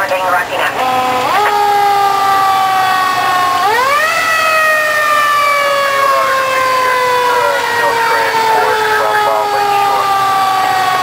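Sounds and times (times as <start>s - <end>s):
fire engine siren wailing: 0.0s - 11.0s.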